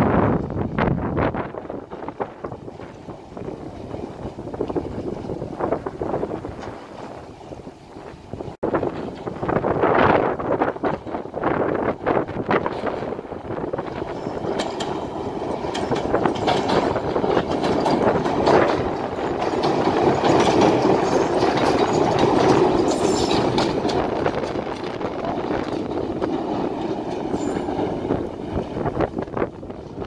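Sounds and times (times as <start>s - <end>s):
electric train passing: 0.0s - 30.0s
wheels clicking over rail joints: 0.1s - 30.0s.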